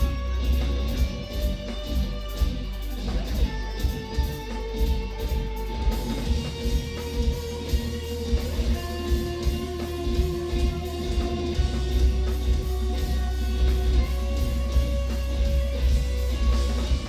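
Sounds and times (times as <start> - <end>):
drum kit: 0.0 - 17.0
electric guitars ringing: 0.0 - 17.0
heavy bass: 0.0 - 17.0.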